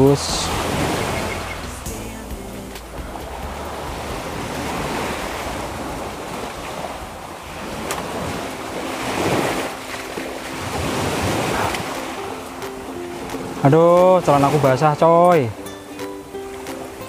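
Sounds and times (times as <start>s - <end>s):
waves washing on sandy beach: 0.0s - 17.0s.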